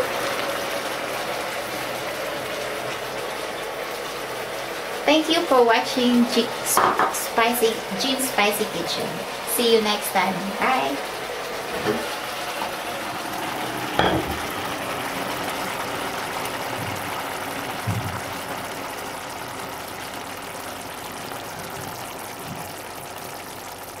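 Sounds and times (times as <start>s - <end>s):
fish sizzling in frying pan: 0.0s - 24.0s.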